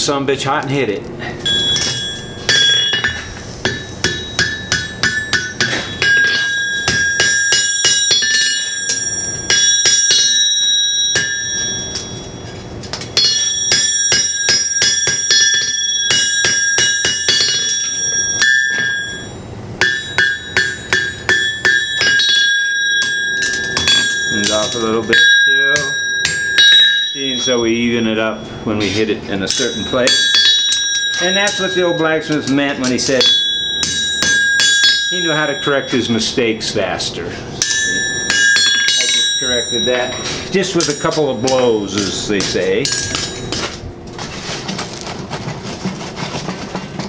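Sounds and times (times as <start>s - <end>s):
hammer striking metal on anvil: 1.4s - 36.4s, 37.6s - 43.8s
anvil ringing: 1.4s - 36.9s, 37.5s - 43.8s.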